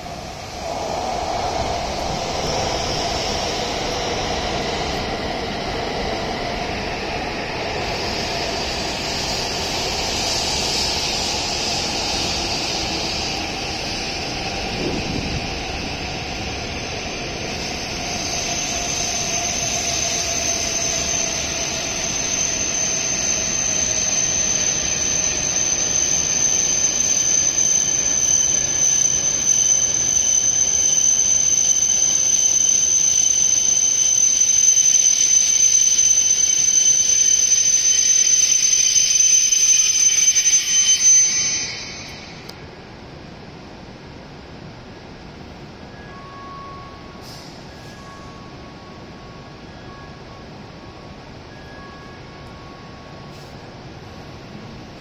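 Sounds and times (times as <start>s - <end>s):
high steady squeal: 0.0s - 42.8s, 45.5s - 55.0s
train decelerating with whine: 0.0s - 55.0s.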